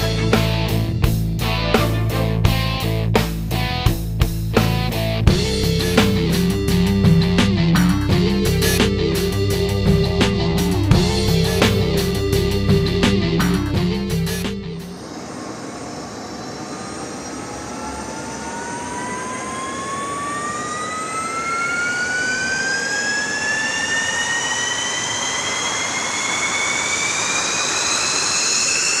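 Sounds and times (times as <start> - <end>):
jet engine turbine whine: 0.0 - 29.0
jet engine rushing noise: 4.6 - 29.0.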